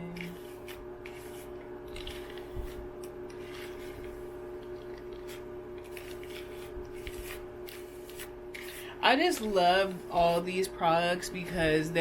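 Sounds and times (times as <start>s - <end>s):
steady low hum: 0.0s - 12.0s
brushing through wet hair: 0.3s - 10.4s.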